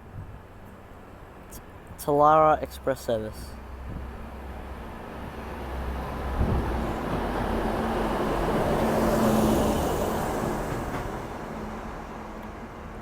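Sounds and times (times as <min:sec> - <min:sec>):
passenger train rumbling past: 0:02.4 - 0:13.0.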